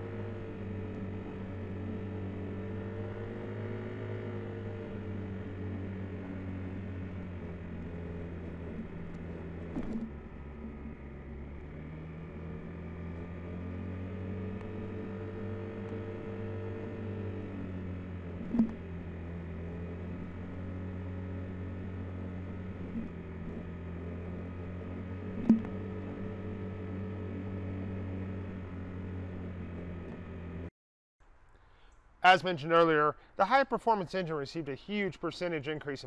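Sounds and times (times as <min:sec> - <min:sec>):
vehicle engine hum: 0:00.0 - 0:36.0.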